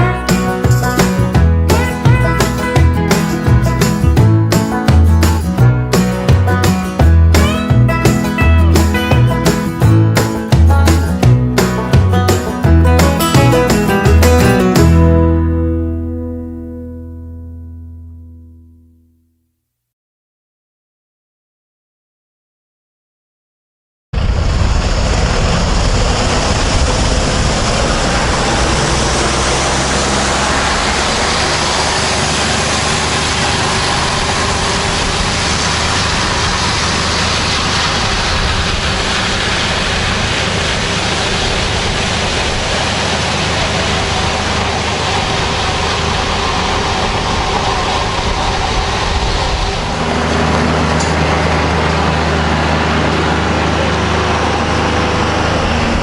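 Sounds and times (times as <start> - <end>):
tractor diesel engine running: 0.0 - 16.6, 24.2 - 56.0.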